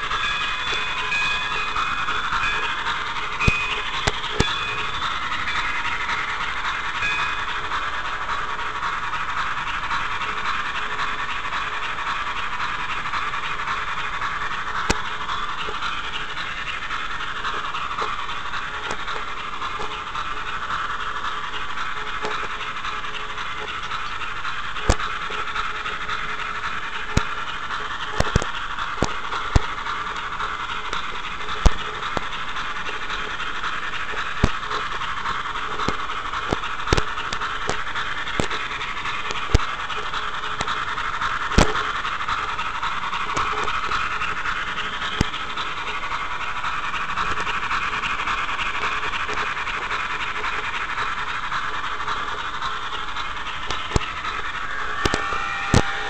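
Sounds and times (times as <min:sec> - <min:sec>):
model train whirring: 0:00.0 - 0:56.0.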